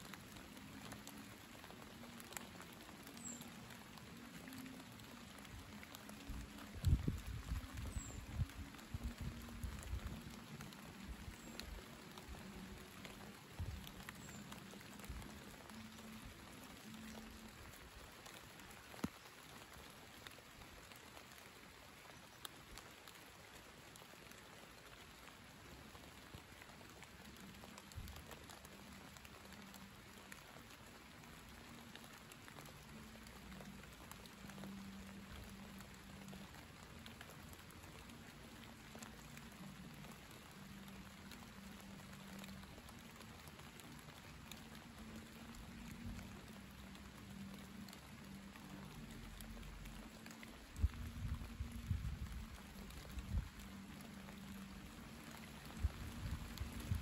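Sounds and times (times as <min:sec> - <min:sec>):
light rain falling: 0:00.0 - 0:57.0
raindrop ticks: 0:00.0 - 0:57.0.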